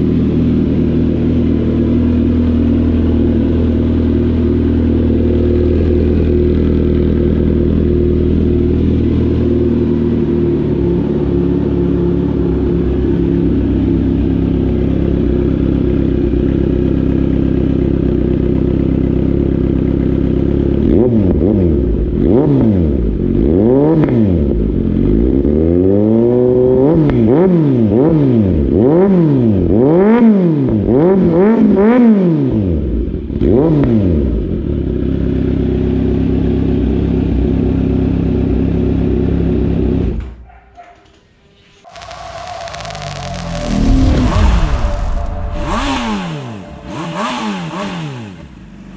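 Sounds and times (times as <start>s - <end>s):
motorcycle engine idling and revving: 0.0s - 40.6s, 41.9s - 48.9s.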